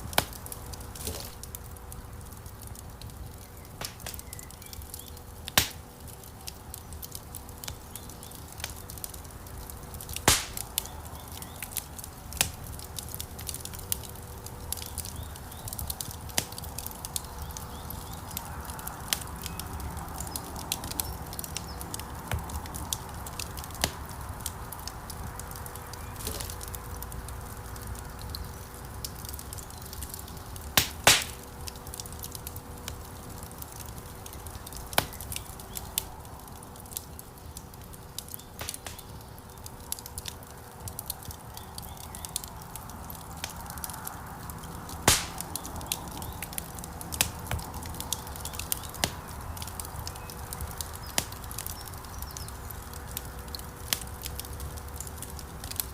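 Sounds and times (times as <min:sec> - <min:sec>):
burning logs popping: 0:00.0 - 0:55.9
fire crackling: 0:00.0 - 0:55.9
low rush of flames: 0:00.0 - 0:55.9.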